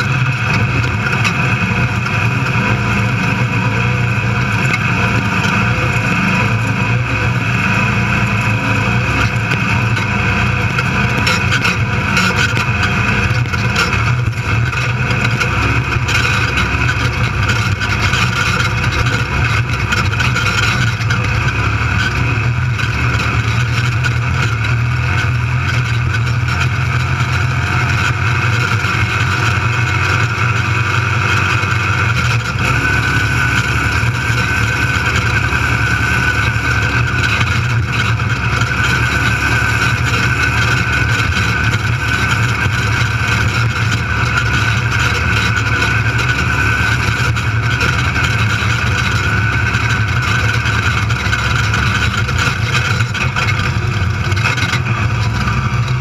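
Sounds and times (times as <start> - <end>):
race car engine droning: 0.0 - 56.0.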